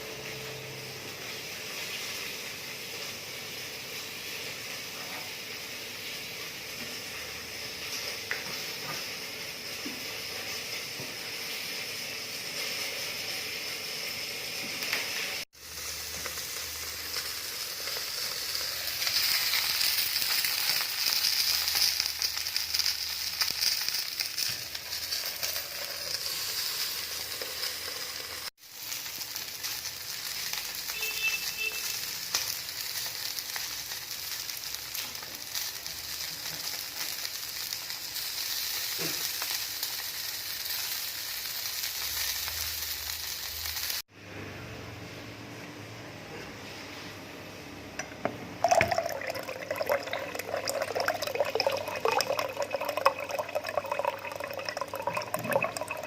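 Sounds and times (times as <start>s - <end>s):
food sizzling in frying: 0.0s - 44.1s, 48.6s - 56.0s.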